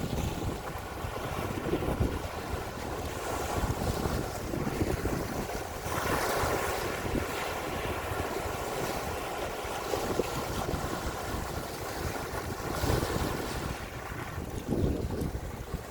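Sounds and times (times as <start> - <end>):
sea waves washing: 0.0 - 15.9
wind buffeting microphone: 0.0 - 15.9.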